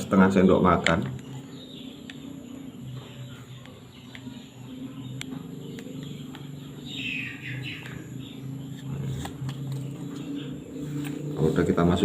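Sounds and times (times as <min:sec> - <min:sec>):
birds calling: 0:00.0 - 0:12.0
low steady hum: 0:00.0 - 0:12.0.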